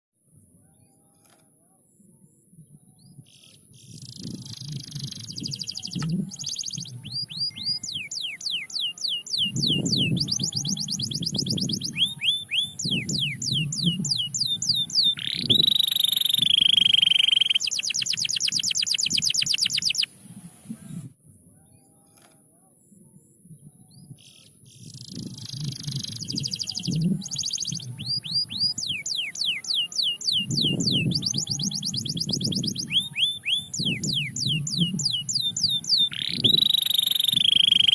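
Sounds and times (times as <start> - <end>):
canary singing trills: 3.0 - 20.2, 23.9 - 37.9.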